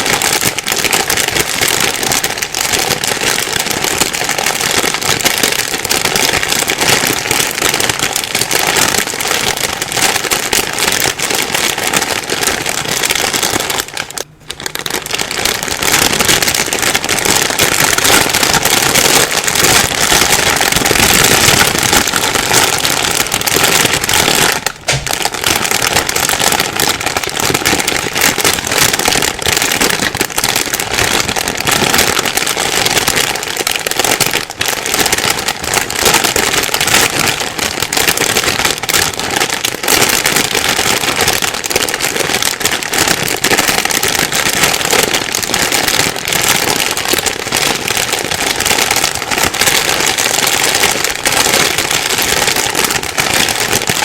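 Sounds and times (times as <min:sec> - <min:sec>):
plastic bag crumpling: 0:00.0 - 0:54.0.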